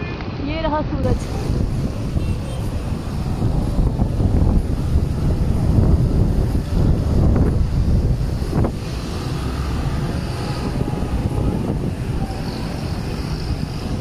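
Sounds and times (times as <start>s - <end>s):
road traffic hum: 0.0s - 14.0s
wind buffeting microphone: 0.4s - 14.0s.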